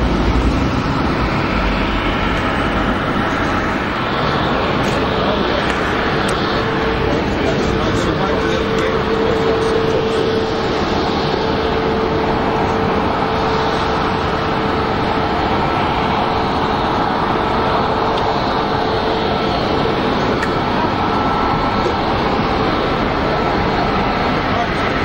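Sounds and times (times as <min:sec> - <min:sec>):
jet engine idling: 0:00.0 - 0:25.0
steady hum: 0:00.0 - 0:25.0.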